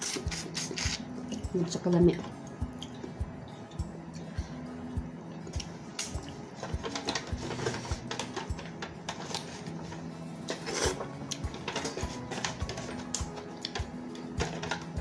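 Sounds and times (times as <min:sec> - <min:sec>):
soft music with low beat: 0:00.0 - 0:15.0.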